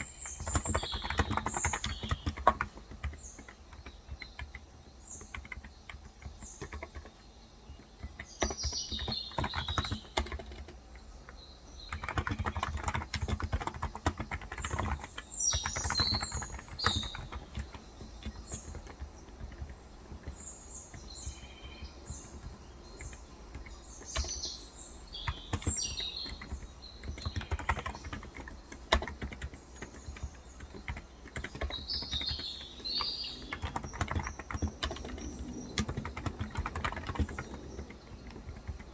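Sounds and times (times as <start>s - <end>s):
birds chirping: 0.0s - 38.9s
typing on keyboard: 0.0s - 38.9s.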